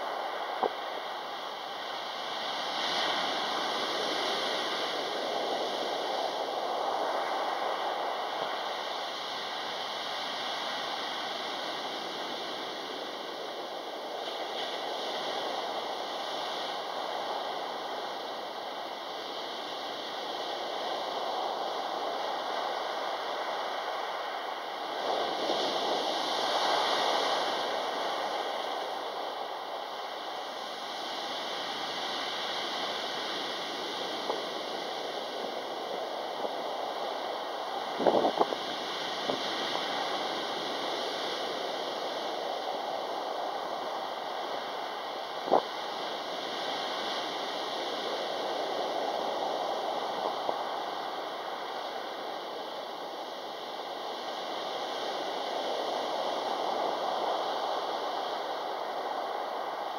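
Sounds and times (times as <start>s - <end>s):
surf washing over pebbles: 0.0s - 59.9s.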